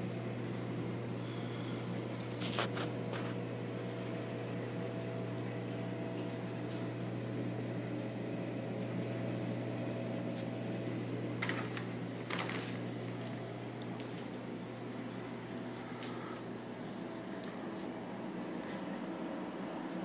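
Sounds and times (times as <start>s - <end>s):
aquarium pumps humming: 0.0s - 20.0s.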